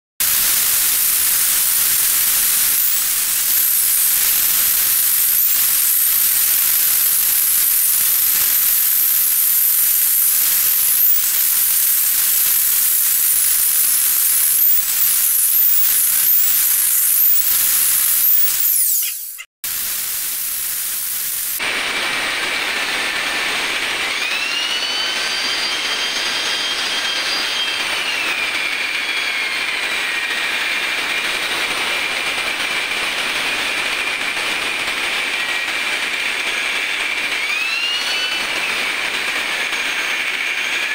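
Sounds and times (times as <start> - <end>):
angle grinder cutting brick: 0.2 - 40.9.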